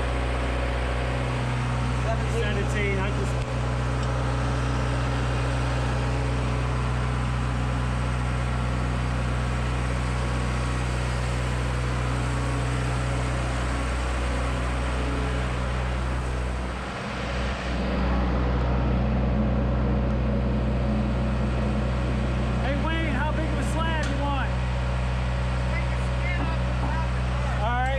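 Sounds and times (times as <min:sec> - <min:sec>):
large engine running: 0:00.0 - 0:27.9.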